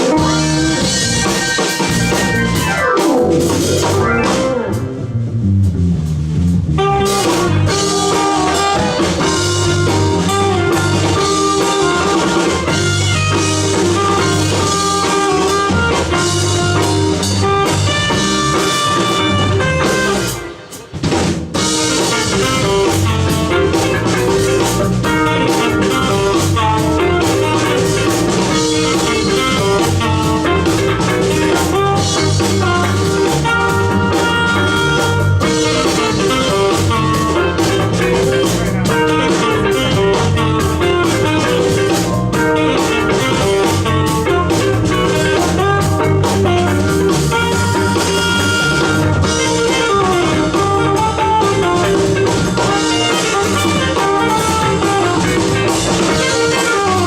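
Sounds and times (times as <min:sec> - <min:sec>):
band playing jazz fusion: 0:00.0 - 0:57.0.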